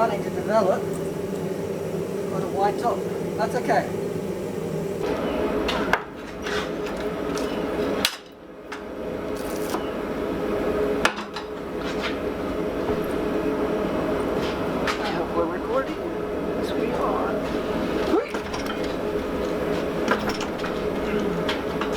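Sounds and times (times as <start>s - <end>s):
forge humming: 0.0s - 21.9s.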